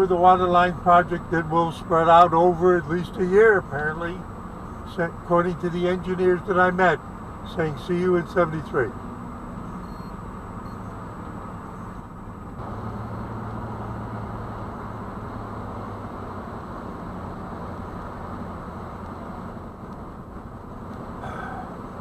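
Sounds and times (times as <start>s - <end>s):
low engine hum: 0.0s - 22.0s
road and tyre noise: 0.0s - 22.0s.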